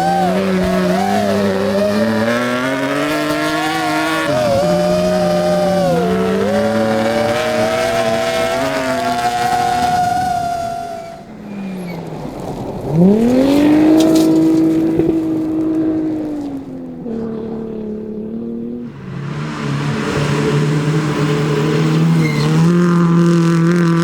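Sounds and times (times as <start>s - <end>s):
rally car engine pulling hard: 0.0s - 24.0s.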